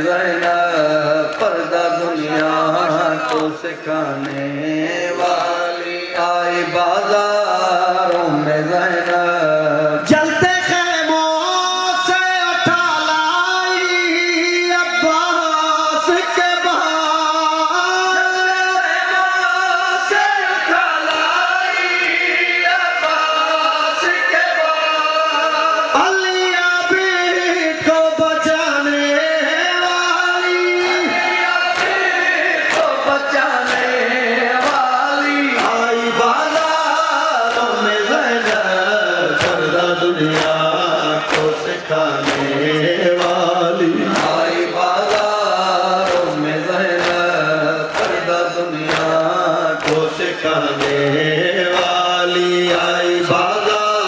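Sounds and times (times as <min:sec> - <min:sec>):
rhythmic chest-beating slaps: 0:00.0 - 0:18.0, 0:19.2 - 0:23.8, 0:27.8 - 0:54.0
man chanting through loudspeakers: 0:00.0 - 0:54.0.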